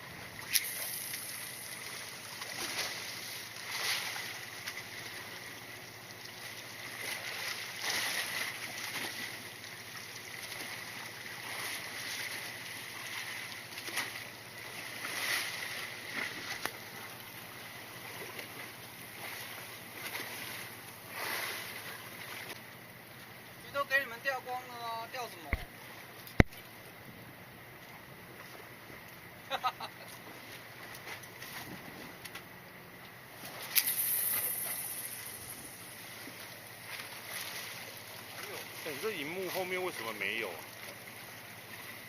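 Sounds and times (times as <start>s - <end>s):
sea noise: 0.0s - 42.0s
wind: 0.0s - 42.0s.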